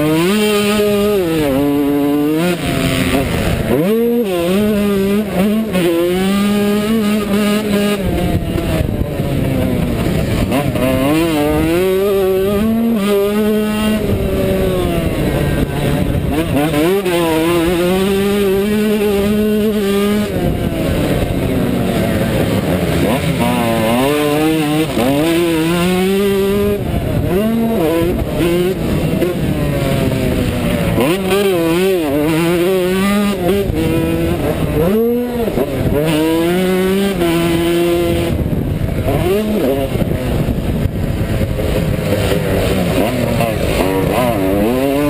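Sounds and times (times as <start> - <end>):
motocross engine revving: 0.0 - 45.0.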